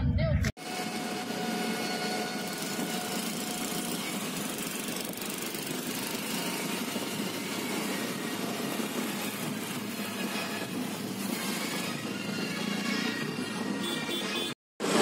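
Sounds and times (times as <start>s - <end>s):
wind and road noise: 0.0s - 15.0s
motor scooter running: 0.6s - 15.0s.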